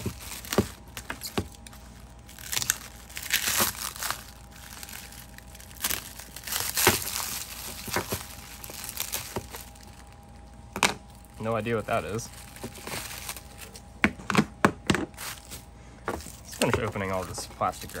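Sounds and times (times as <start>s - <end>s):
plastic wrap crinkling: 0.0s - 13.9s, 15.1s - 18.0s.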